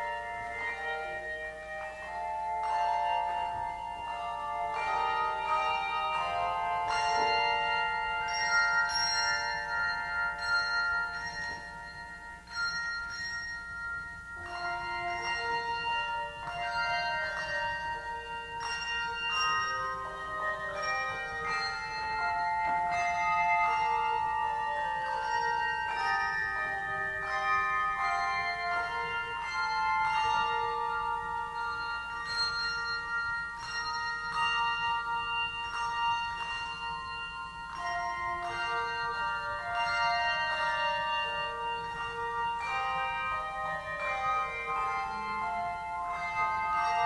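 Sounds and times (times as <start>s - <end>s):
bell-like struck notes: 0.0s - 47.0s.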